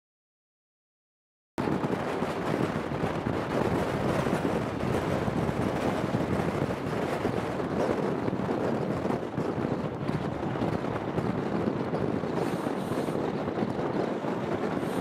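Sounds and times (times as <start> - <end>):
train running on rails: 1.6 - 15.0
wind buffeting microphone: 1.6 - 15.0.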